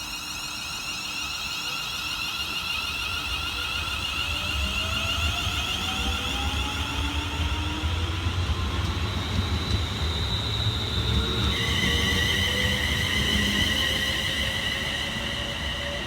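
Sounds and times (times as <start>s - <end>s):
train traction motors whining: 0.0s - 16.0s.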